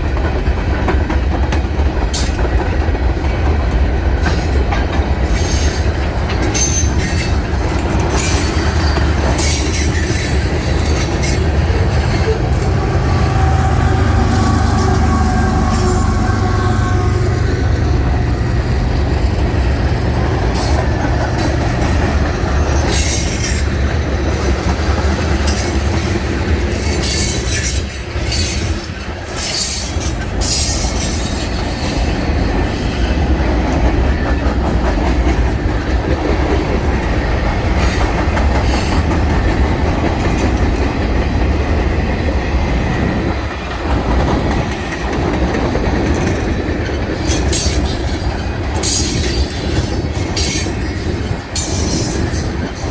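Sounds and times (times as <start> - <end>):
train rumbling on rails: 0.0 - 52.9.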